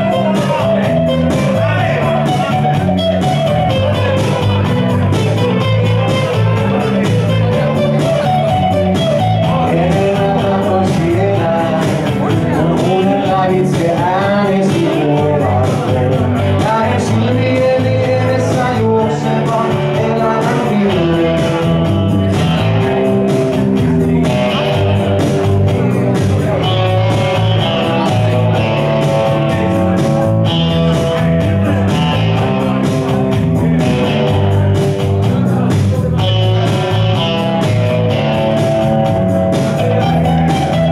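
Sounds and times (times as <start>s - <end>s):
electric bass line: 0.0s - 40.9s
electric guitar: 0.0s - 40.9s.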